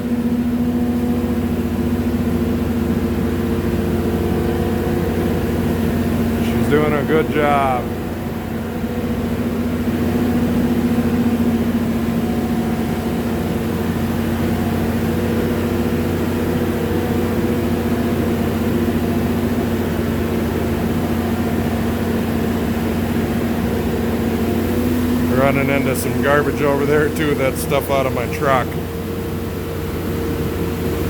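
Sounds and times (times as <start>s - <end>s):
loader engine running: 0.0s - 31.0s.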